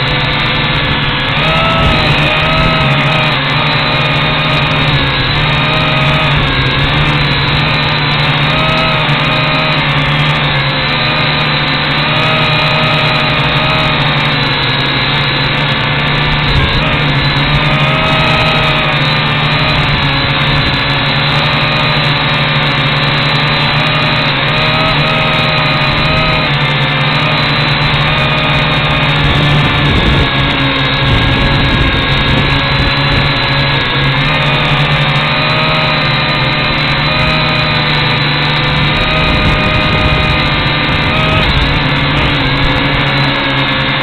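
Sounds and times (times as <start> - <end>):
quadcopter motors and propellers: 0.0 - 44.0.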